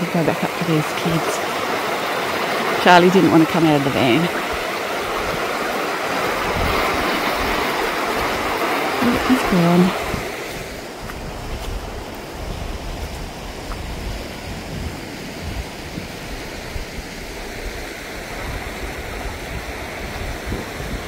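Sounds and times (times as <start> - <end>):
river water rushing: 0.0 - 21.0
wind rumble on microphone: 0.0 - 21.0.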